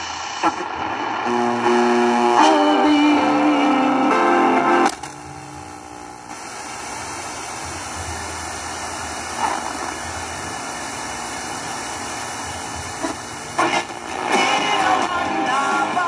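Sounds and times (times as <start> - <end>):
radio static hiss: 0.0 - 16.0
radio station music: 0.0 - 16.0.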